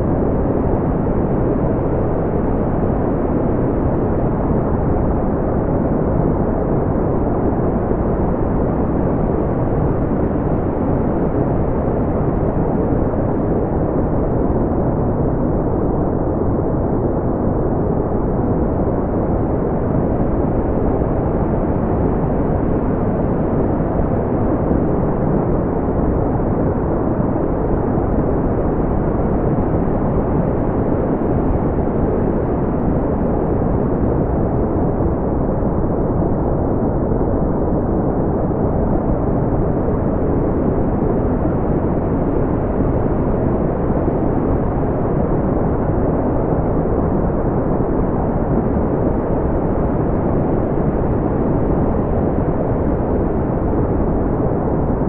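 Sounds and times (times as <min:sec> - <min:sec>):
deep rumbling brown noise: 0:00.0 - 0:55.0.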